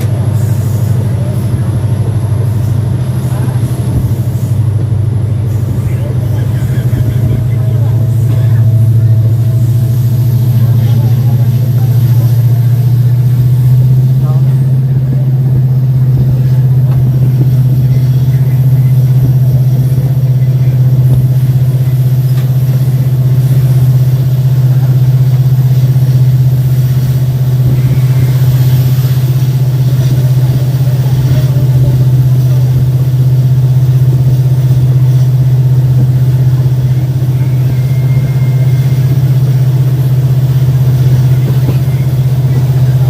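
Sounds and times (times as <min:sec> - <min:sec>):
diesel locomotive engine humming: 0:00.0 - 0:43.0
train running noise: 0:00.0 - 0:43.0.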